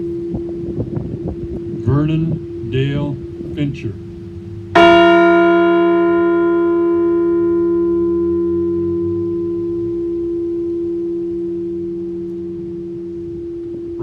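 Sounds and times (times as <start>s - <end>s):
large bell ringing: 0.0s - 14.0s.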